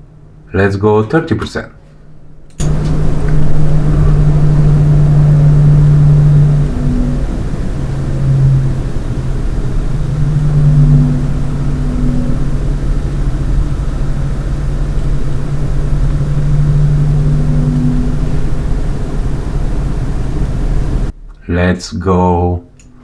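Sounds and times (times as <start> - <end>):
computer fans humming: 0.0 - 23.0
higher whining tone: 2.0 - 21.3.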